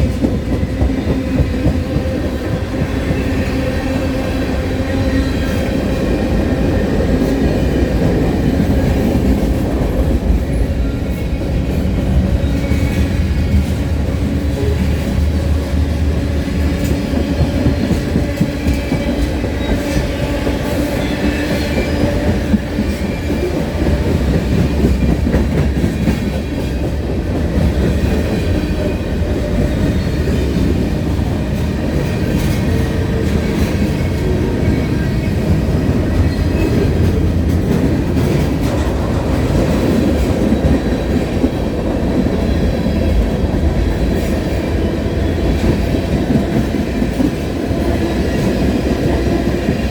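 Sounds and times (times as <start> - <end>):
freight train cars rumbling: 0.0 - 49.9.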